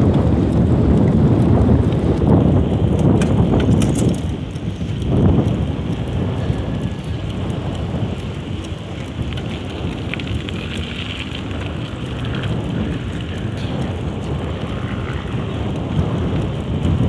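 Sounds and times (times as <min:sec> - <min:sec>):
bicycle tyres on sandy road: 0:00.0 - 0:17.0
crackles of grit: 0:00.0 - 0:17.0
wind on microphone: 0:00.0 - 0:17.0.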